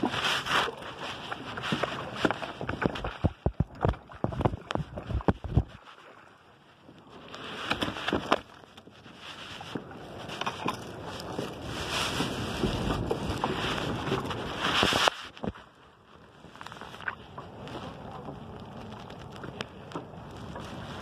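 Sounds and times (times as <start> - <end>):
wind and water rushing: 0.0 - 21.0.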